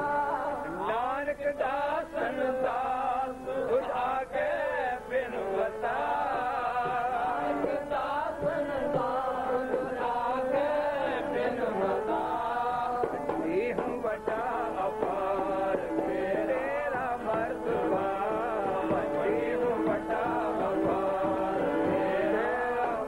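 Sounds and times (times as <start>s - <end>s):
harmonium: 0.0s - 23.0s
man singing a hymn: 0.0s - 23.0s.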